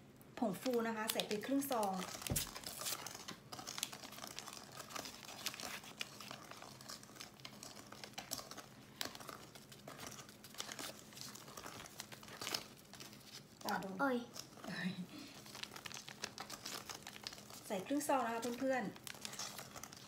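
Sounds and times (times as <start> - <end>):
plastic sachet crinkling: 0.4 - 20.0
wire whisk stirring batter: 0.6 - 20.0.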